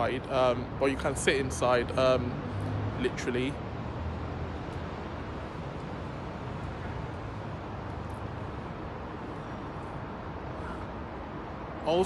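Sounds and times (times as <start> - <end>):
city background rumble: 0.0 - 12.0.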